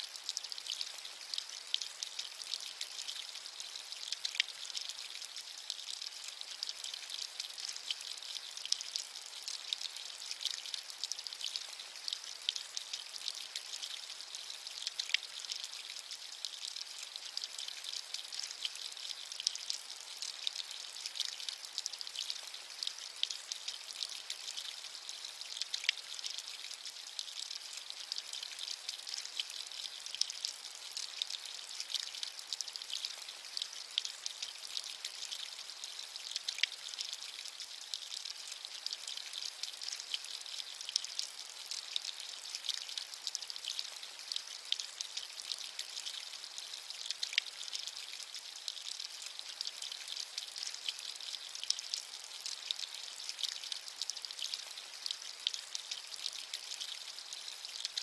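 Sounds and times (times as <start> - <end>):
steady rainfall: 0.0 - 49.3.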